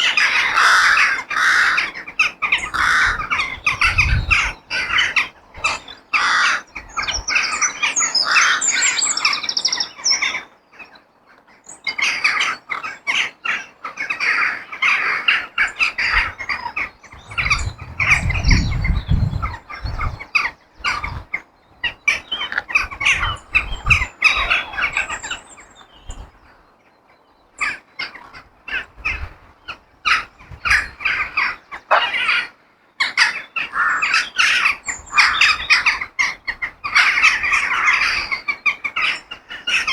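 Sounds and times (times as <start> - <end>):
crows cawing and squawking: 0.0 - 18.6, 19.4 - 25.4, 27.6 - 39.9.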